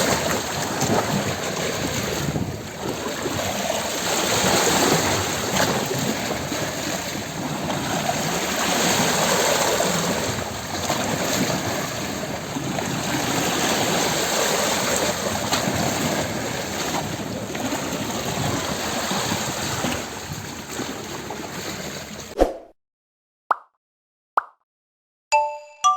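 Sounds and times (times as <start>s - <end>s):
rushing water: 0.0s - 22.4s.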